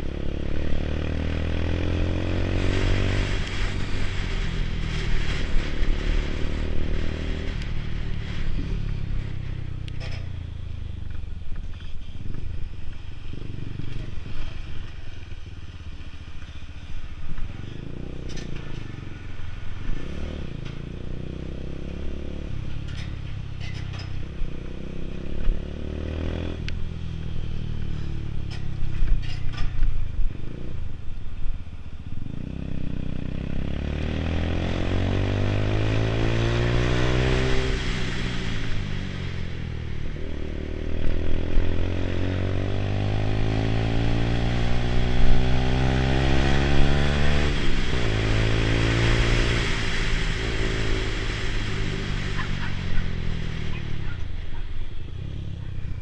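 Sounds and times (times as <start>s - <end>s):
motorcycle engine revving: 0.0s - 31.2s, 32.0s - 56.0s.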